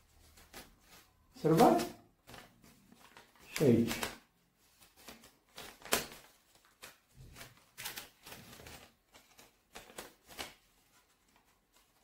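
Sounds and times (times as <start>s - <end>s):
paper rustling and crackling: 0.0s - 12.0s.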